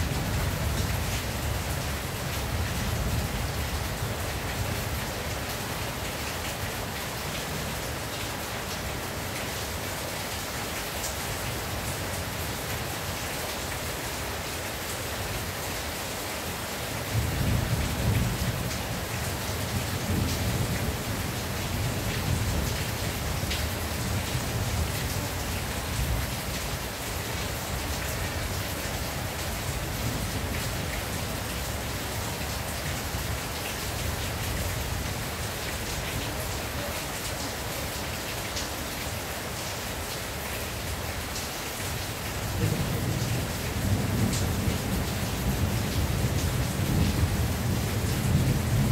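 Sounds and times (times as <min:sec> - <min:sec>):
rain on a tin roof: 0:00.0 - 0:48.9.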